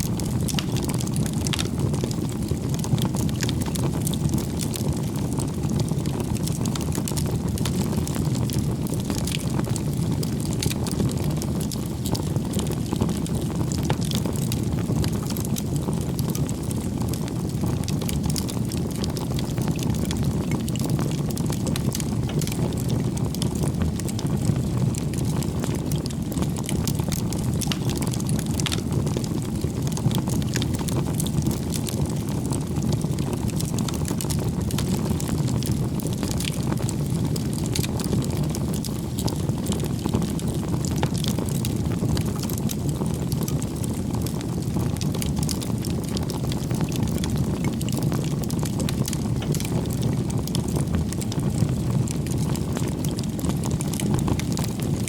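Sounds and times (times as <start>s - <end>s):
fire burning with crackles: 0.0s - 55.0s.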